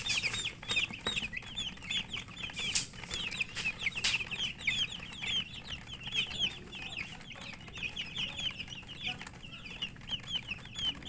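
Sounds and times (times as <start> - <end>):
chicks peeping: 0.0 - 11.0
faint pecking clicks: 0.0 - 11.0.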